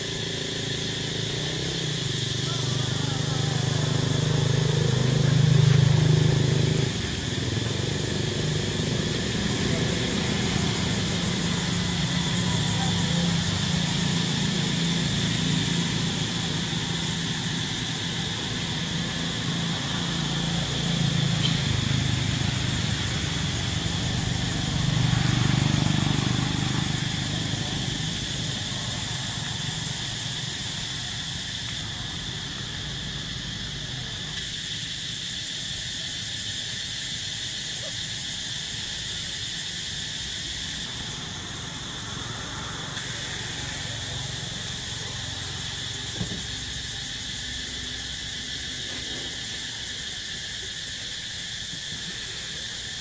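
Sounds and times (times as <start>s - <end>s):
distant engine running: 0.0s - 53.0s.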